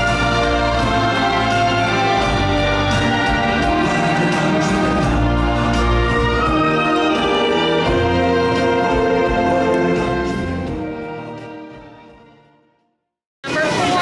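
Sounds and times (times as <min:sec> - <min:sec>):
orchestral music with brass: 0:00.0 - 0:12.7.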